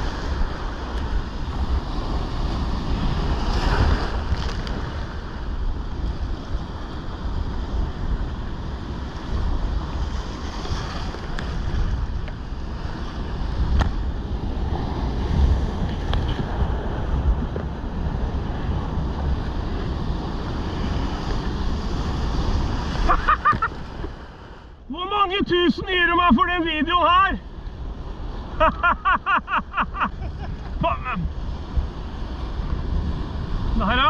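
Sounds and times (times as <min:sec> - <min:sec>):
surf breaking and rushing: 0:00.0 - 0:34.0
wind buffeting microphone: 0:00.0 - 0:34.0.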